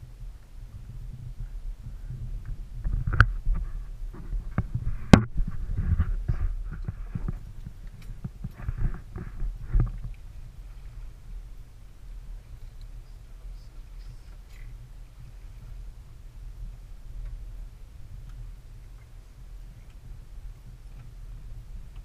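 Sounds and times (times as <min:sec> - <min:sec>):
low rumble: 0:00.0 - 0:22.0.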